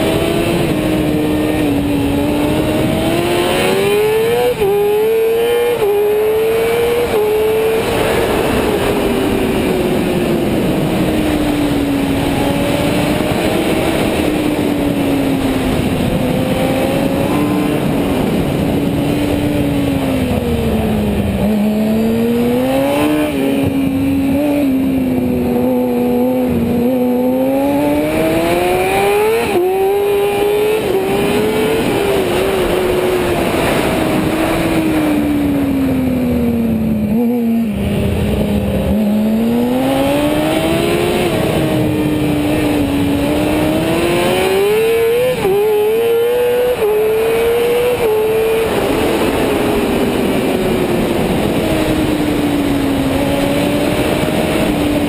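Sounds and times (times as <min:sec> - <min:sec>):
racing motorcycle engine: 0:00.0 - 0:55.0
wind rush on microphone: 0:00.0 - 0:55.0.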